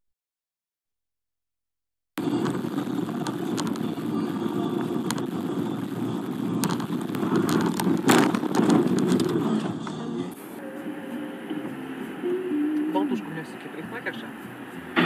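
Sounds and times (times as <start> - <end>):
car road and engine noise: 2.2 - 15.0.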